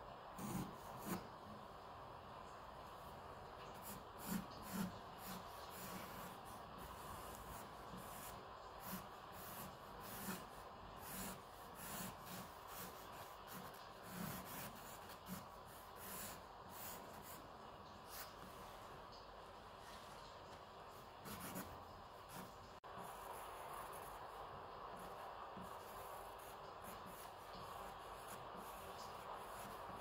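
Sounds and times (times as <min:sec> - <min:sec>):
pencil scratching on paper: 0:00.4 - 0:01.3, 0:03.6 - 0:18.8, 0:20.9 - 0:30.0.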